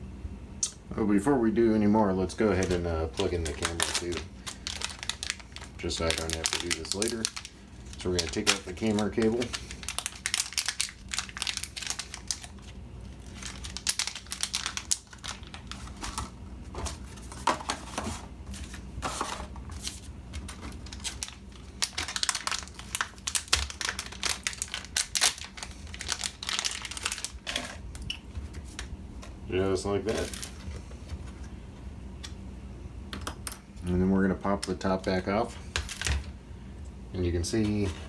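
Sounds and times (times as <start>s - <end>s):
plastic packaging crinkling: 2.1s - 31.5s, 34.4s - 36.3s.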